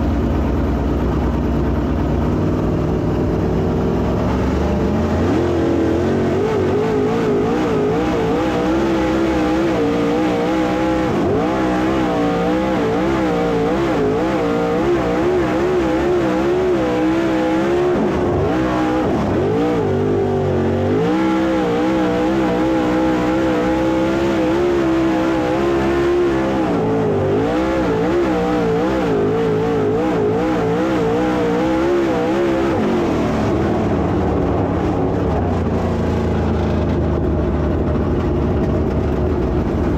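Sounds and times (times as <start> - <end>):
race car engines running laps: 0.0 - 39.9.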